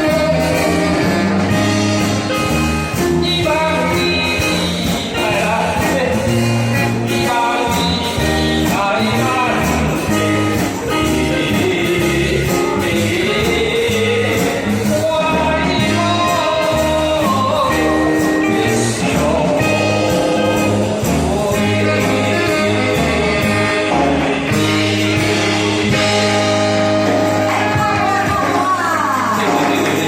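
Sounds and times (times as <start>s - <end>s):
backing music with steady beat: 0.0s - 30.0s
man singing: 0.0s - 30.0s
sustained bass: 0.0s - 30.0s.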